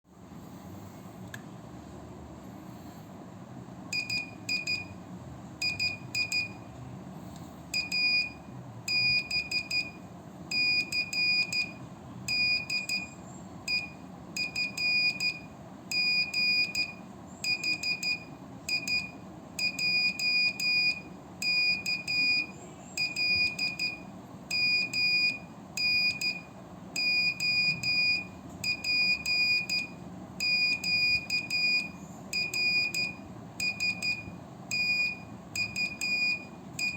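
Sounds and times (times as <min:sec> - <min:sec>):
morse code tone: 0:04.0 - 0:05.0, 0:05.6 - 0:06.6, 0:07.8 - 0:36.9.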